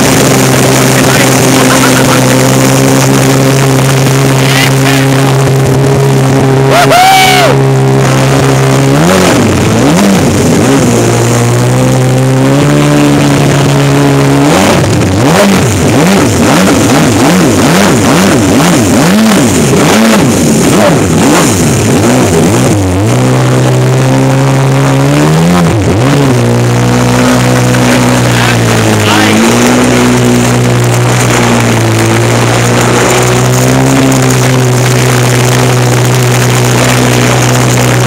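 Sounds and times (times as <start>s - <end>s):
jet ski engine running hard: 0.0s - 38.0s.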